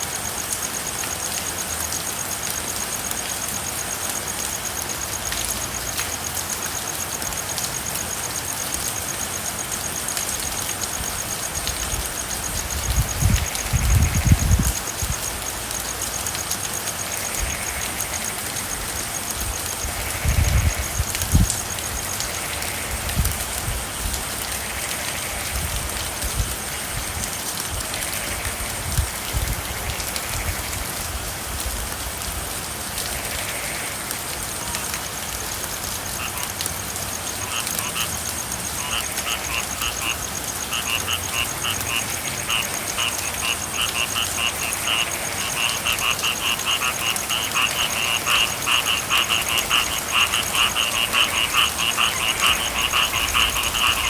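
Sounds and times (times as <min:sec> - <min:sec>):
frogs calling in trills: 0:00.0 - 0:31.5, 0:32.9 - 0:54.0
steady rain: 0:00.0 - 0:54.0.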